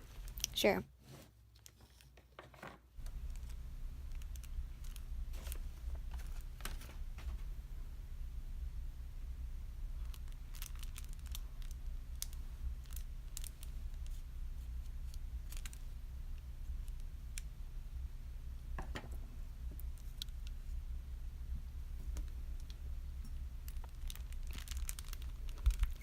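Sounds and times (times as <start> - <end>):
steady low hum: 3.0 - 26.0.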